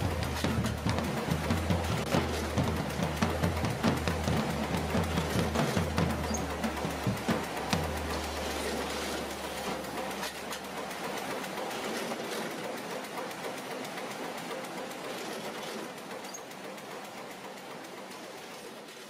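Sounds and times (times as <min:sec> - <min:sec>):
stacking machine and conveyor clatter: 0:00.0 - 0:19.0.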